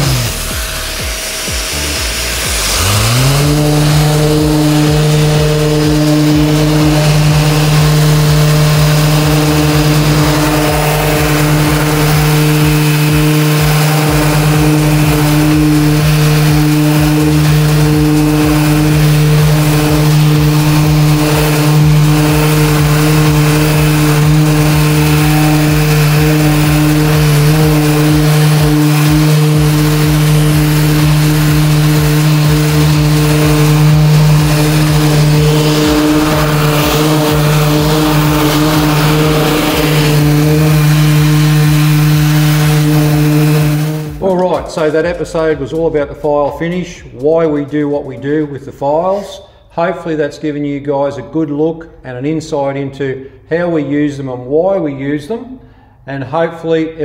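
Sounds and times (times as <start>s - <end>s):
orbital sander humming: 0.0s - 46.6s.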